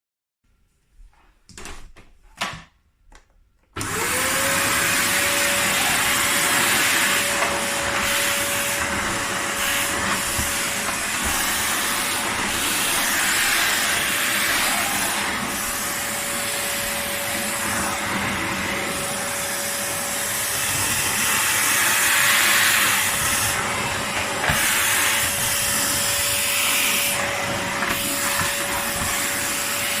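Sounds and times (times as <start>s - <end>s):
vacuum cleaner running: 3.8s - 30.0s.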